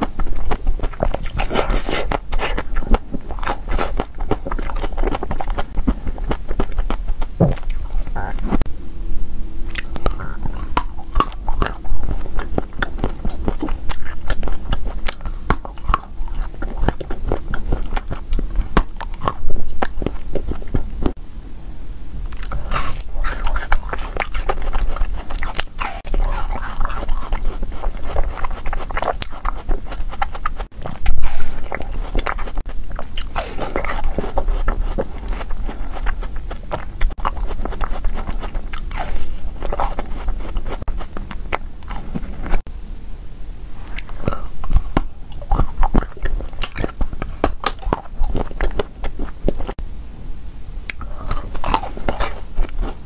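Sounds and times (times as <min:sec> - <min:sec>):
crunchy biting and chewing: 0:00.0 - 0:08.6, 0:09.7 - 0:21.2, 0:22.3 - 0:42.6, 0:43.8 - 0:49.8, 0:50.8 - 0:53.0.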